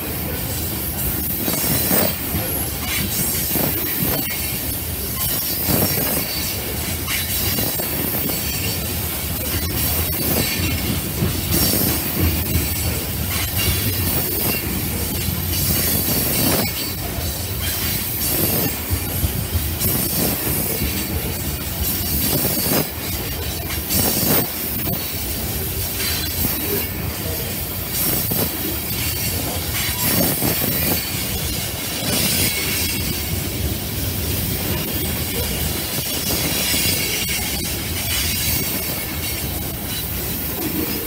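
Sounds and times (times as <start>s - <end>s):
train wheels clattering on rail: 0.0s - 41.0s.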